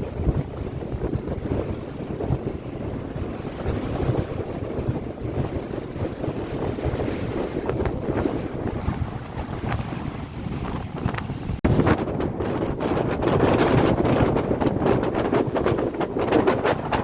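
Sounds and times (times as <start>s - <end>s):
sea waves breaking: 0.0s - 17.0s
wind buffeting microphone: 0.0s - 17.0s.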